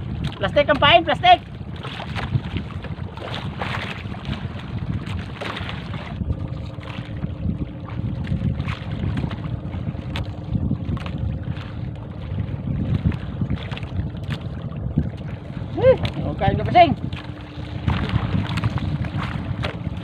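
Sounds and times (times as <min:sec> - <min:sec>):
wind buffeting the microphone: 0:00.0 - 0:20.0.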